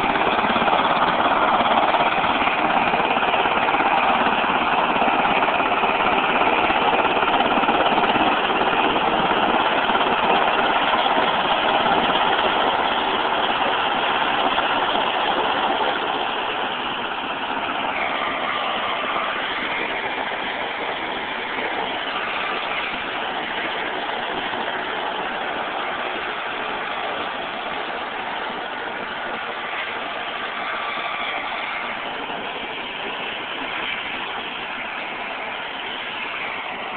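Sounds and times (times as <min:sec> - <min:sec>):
helicopter engines and rotor: 0:00.0 - 0:36.9.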